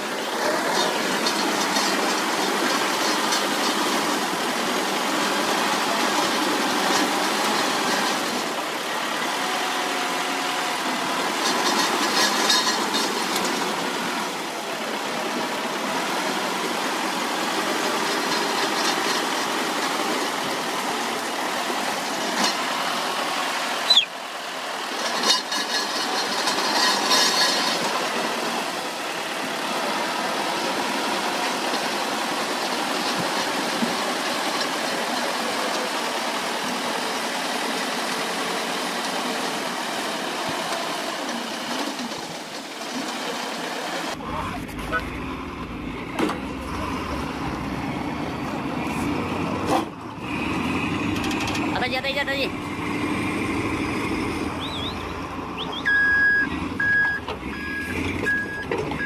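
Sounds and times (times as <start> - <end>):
heavy equipment engine running: 0.0 - 59.0.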